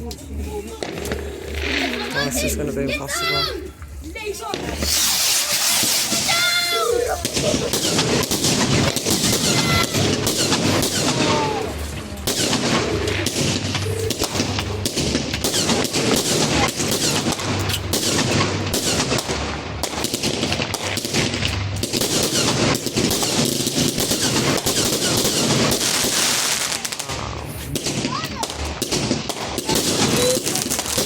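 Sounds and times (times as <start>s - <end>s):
firework cake firing bangs: 4.5s - 31.0s.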